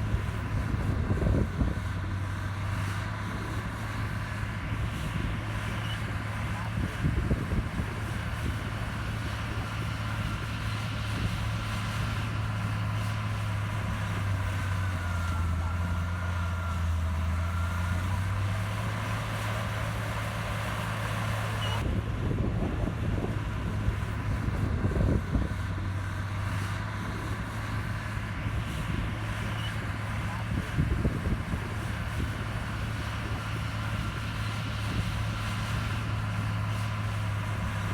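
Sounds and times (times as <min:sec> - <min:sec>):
heavy machinery diesel engine: 0:00.0 - 0:37.9.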